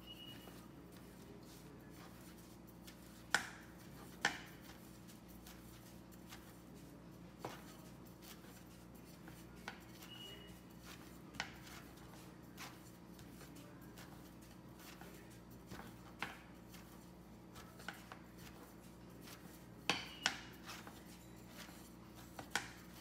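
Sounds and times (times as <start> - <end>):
rolling pin rubbing on dough: 0.0 - 23.0.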